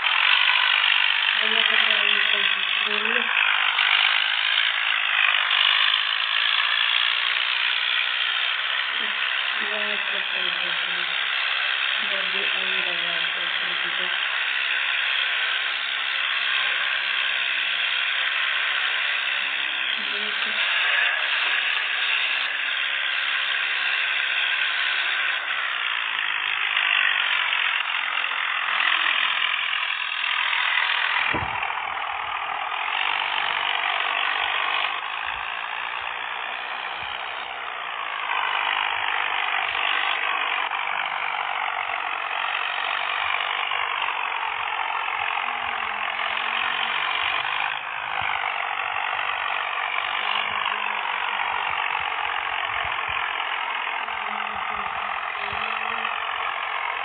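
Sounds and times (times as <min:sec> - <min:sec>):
tractor engine clattering: 0:00.0 - 0:57.0.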